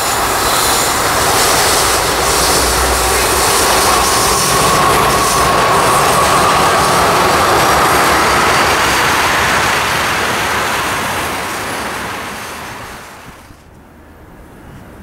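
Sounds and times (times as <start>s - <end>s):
wheels on rails: 0.0s - 13.8s
freight train rolling past: 0.0s - 15.0s.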